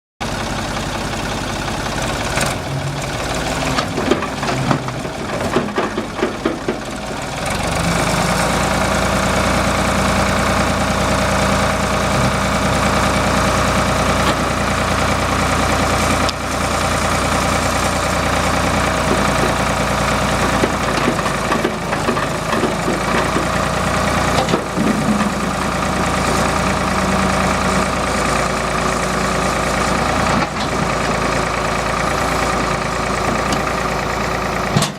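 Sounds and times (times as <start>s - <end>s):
tractor engine running: 0.2s - 34.9s.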